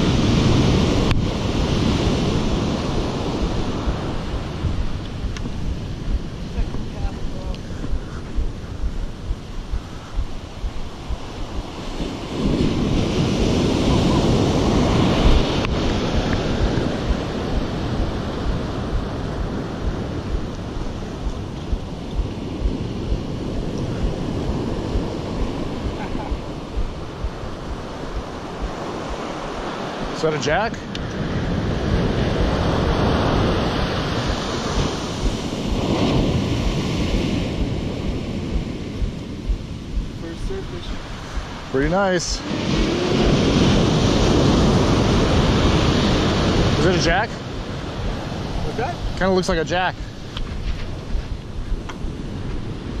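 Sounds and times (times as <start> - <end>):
ocean surf on beach: 0.0 - 53.0
wind buffeting microphone: 0.0 - 53.0.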